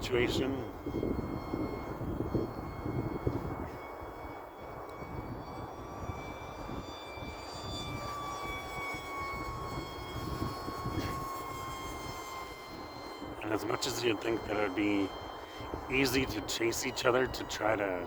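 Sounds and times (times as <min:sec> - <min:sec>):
model jet electric motor whining: 0:00.0 - 0:18.0
wind rumbling on microphone: 0:00.0 - 0:18.0.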